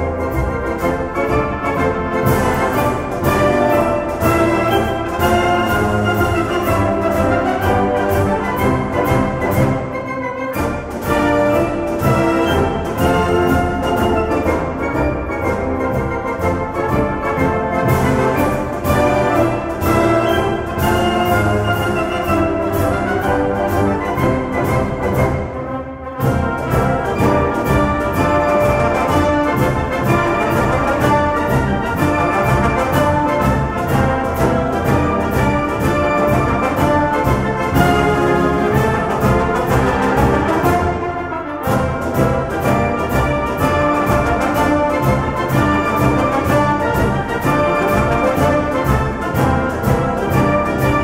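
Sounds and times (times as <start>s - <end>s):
orchestral music with brass: 0.0s - 51.0s.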